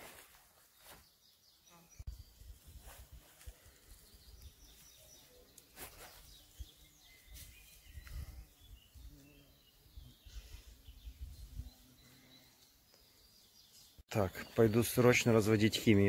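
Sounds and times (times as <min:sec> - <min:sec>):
distant birds chirping: 0:00.6 - 0:16.0.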